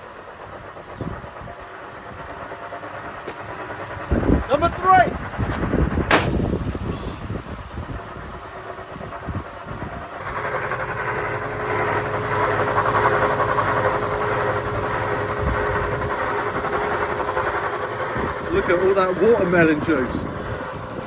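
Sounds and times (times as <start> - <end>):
washing machine whirring hum: 0.0 - 21.0.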